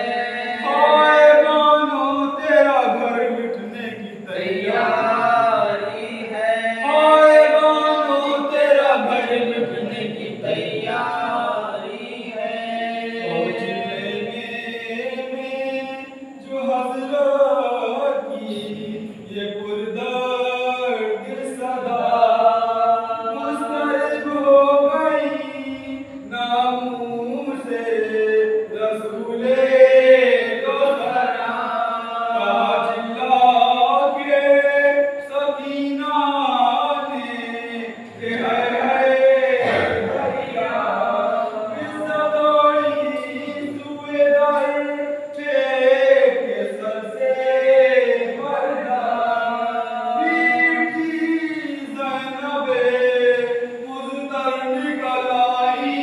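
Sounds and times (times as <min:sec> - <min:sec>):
group chanting in unison: 0:00.0 - 0:56.0.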